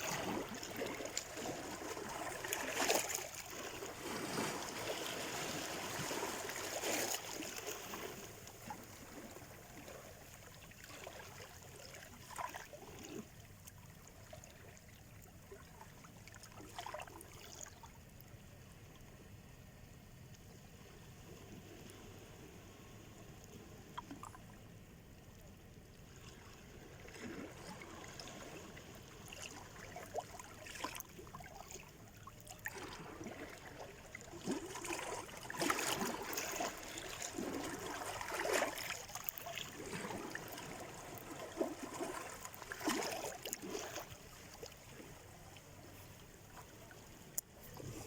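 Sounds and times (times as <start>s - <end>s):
small waves splashing on shore: 0.0s - 18.0s, 26.0s - 48.0s.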